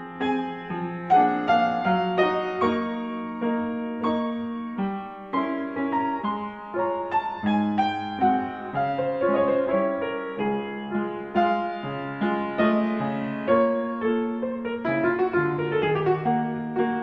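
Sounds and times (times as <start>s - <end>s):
solo piano melody: 0.0s - 17.0s.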